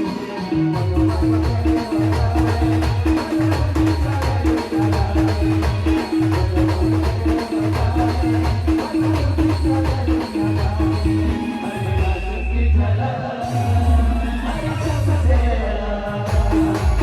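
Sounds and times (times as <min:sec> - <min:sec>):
band music with quick beat: 0:00.0 - 0:12.4, 0:13.4 - 0:17.0.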